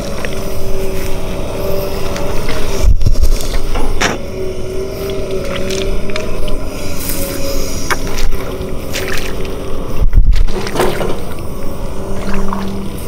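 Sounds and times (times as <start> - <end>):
excavator diesel engine working: 0.0 - 13.0
steady whine: 0.0 - 13.0.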